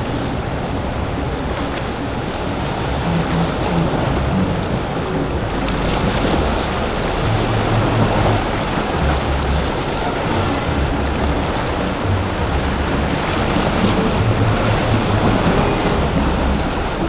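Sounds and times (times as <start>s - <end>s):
powerboat through choppy water: 0.0s - 17.0s.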